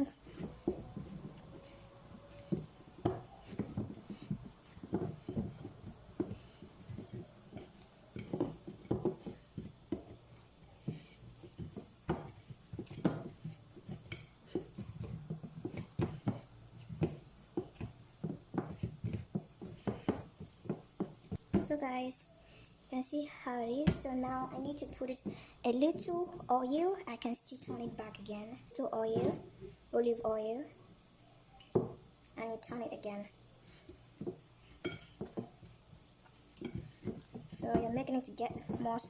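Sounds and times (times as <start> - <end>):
dough kneaded by hand: 0.0 - 30.2, 31.7 - 39.0.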